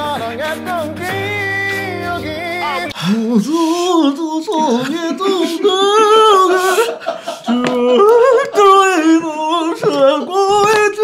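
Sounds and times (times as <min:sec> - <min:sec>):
person singing slow ballad: 0:00.0 - 0:11.0.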